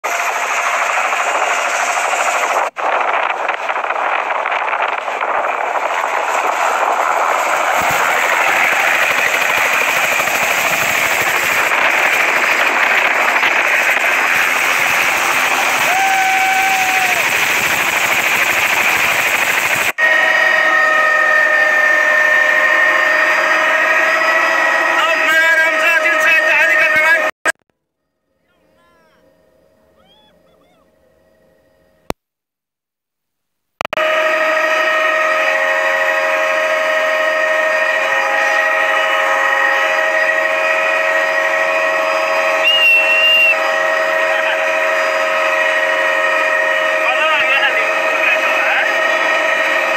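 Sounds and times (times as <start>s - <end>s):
helicopter rotor chop: 0.0s - 27.6s, 33.8s - 49.9s
helicopter cabin whine: 0.0s - 32.2s, 33.8s - 49.9s.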